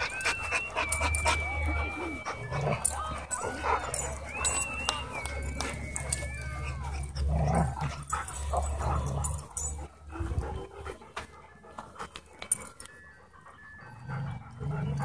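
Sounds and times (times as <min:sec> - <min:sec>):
dog whines and yips: 0:00.0 - 0:15.0.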